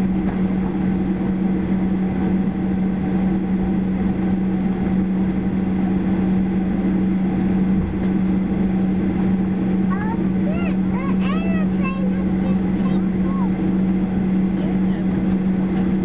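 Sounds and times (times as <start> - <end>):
airplane cabin drone: 0.0 - 16.0.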